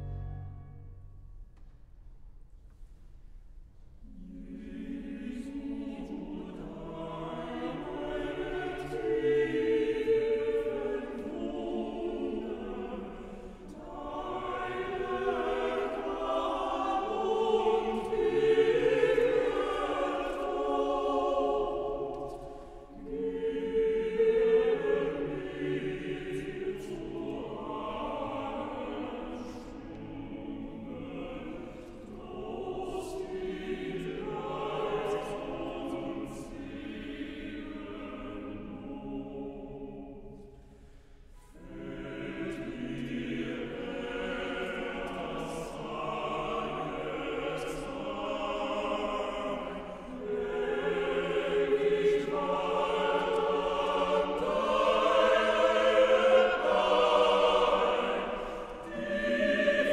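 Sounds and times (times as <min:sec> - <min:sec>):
mixed choir singing: 0:04.0 - 0:59.9.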